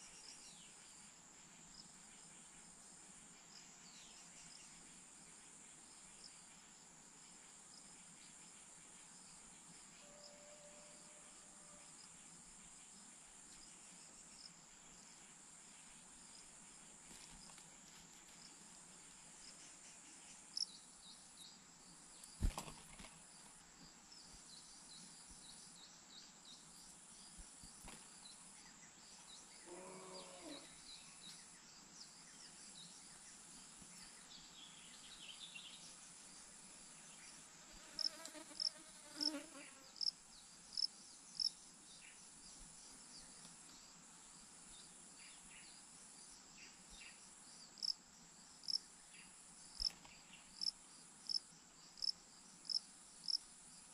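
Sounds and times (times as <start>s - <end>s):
insect chorus droning: 0.0s - 53.9s.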